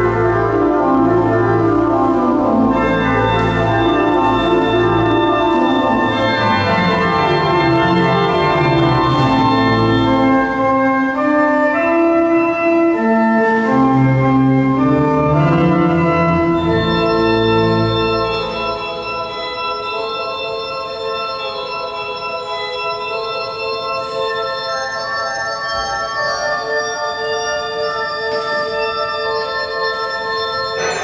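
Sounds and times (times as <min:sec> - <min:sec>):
pipe organ playing chords: 0:00.0 - 0:31.0.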